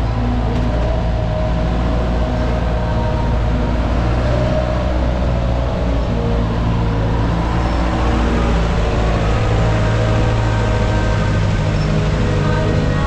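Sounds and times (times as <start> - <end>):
diesel engine droning: 0.0 - 13.0
street traffic noise: 0.0 - 13.0.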